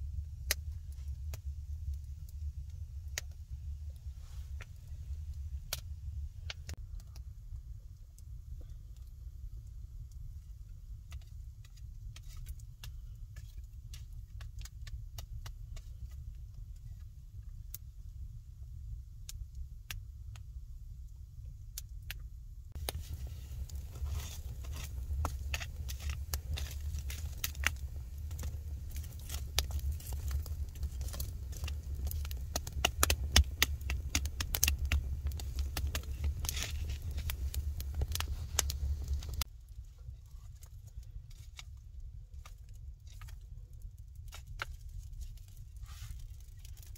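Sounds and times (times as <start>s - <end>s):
wood fire crackling and popping: 0.0s - 20.5s, 21.1s - 46.9s
low rumble of fire: 0.0s - 46.9s.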